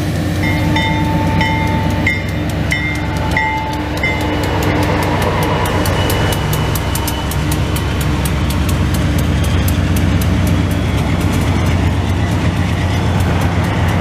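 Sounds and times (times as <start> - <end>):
diesel locomotive engines droning: 0.0 - 14.0
train wheels clicking over rails: 0.4 - 14.0.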